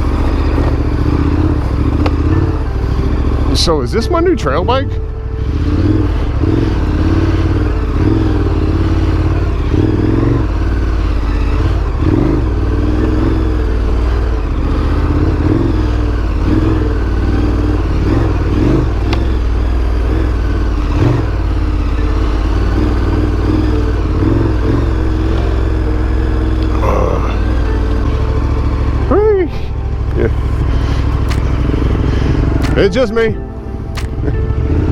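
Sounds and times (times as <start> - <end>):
motorcycle engine at low revs: 0.0 - 34.9.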